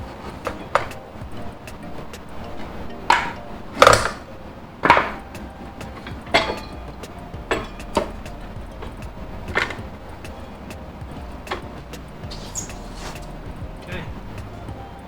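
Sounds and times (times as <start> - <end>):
metal clanks and knocks: 0.0 - 14.8.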